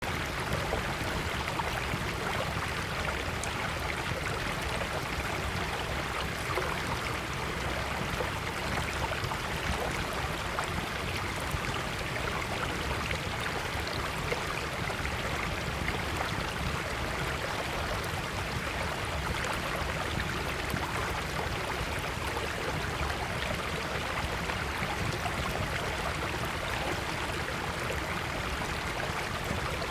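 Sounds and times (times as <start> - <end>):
stream flowing: 0.0 - 29.9.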